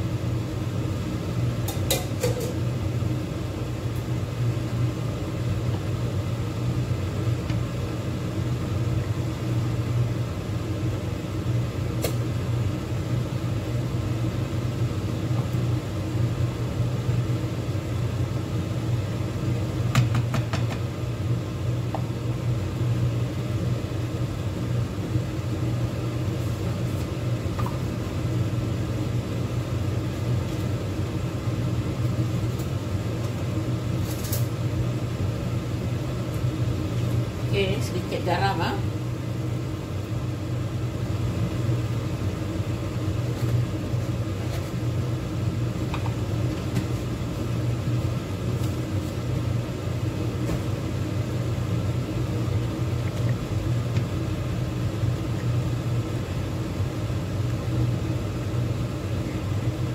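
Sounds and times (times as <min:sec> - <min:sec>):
low hum of kitchen equipment: 0:00.0 - 0:59.9.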